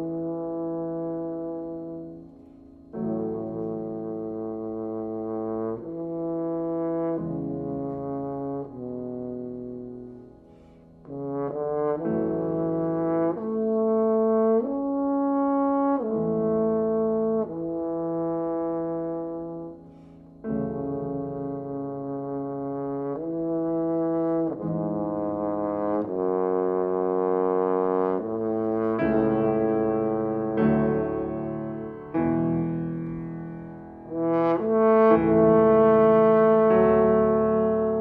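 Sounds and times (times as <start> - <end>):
french horn melody: 0.0 - 38.0
piano accompaniment: 0.0 - 38.0.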